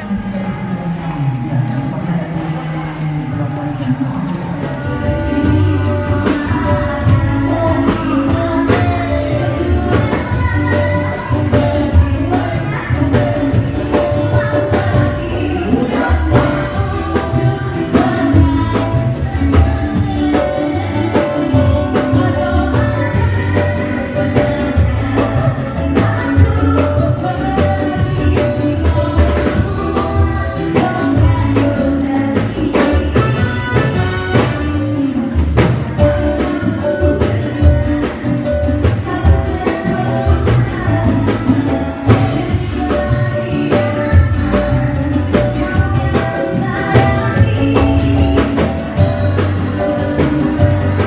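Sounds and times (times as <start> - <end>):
band music with drums: 0.0 - 51.0
woman singing into a microphone: 0.0 - 51.0.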